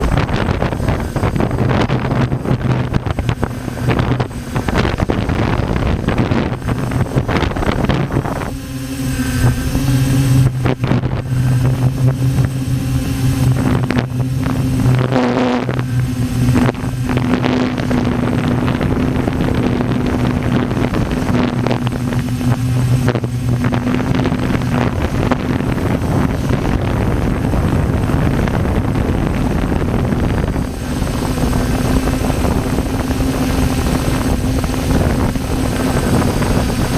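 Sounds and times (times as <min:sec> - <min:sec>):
helicopter engine and rotor drone: 0:00.0 - 0:36.9
wind buffeting microphone: 0:00.0 - 0:36.9.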